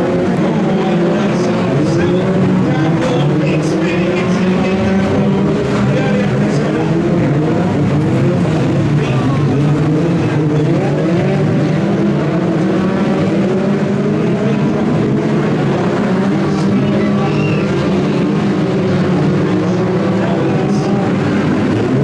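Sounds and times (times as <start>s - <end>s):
stock car engines racing: 0.0s - 22.0s.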